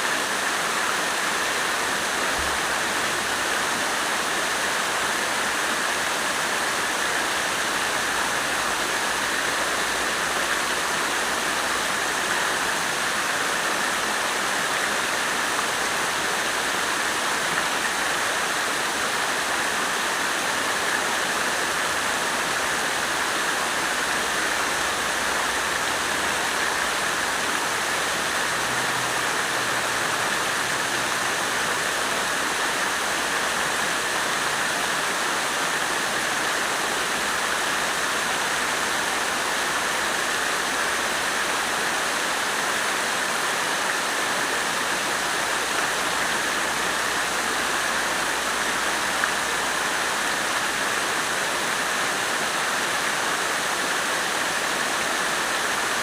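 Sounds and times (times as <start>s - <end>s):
water fountain splashing: 0.0s - 56.0s.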